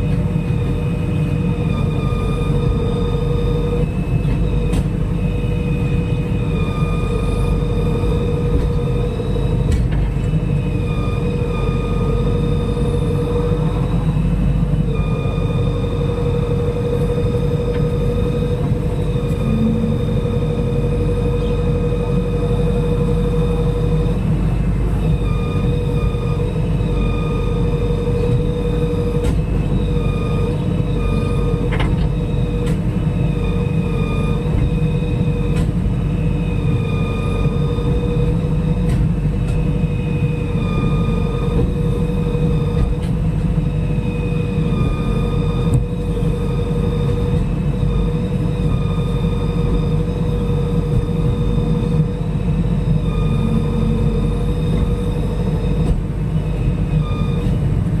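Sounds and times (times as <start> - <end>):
diesel engine rumbling: 0.0 - 58.0
high whine: 0.0 - 58.0.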